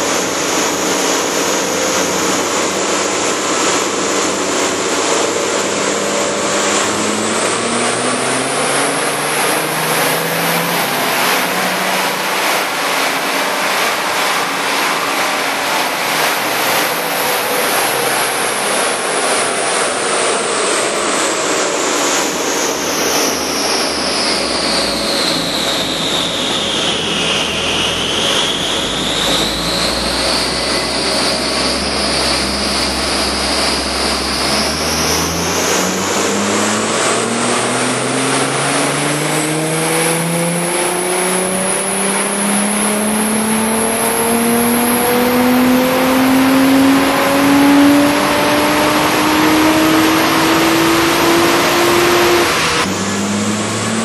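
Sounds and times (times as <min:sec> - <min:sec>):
engine and roller noise: 0:00.0 - 0:54.0
high whine: 0:00.0 - 0:54.0.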